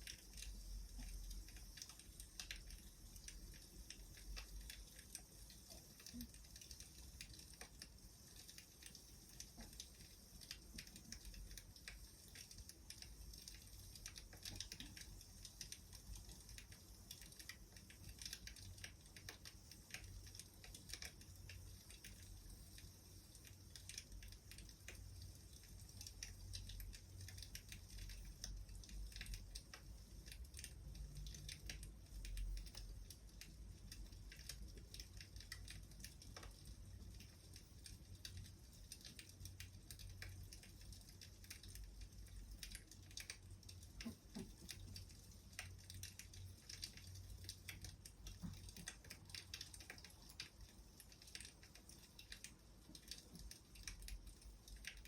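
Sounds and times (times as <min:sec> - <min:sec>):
faint wood fire crackling: 0:00.0 - 0:55.0.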